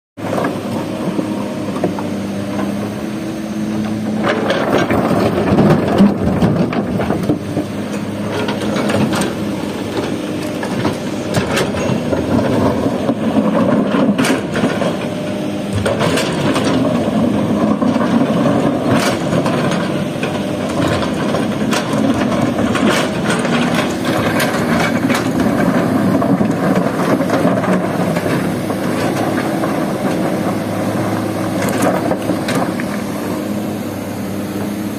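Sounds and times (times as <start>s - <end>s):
excavator engine running: 0.2s - 34.9s.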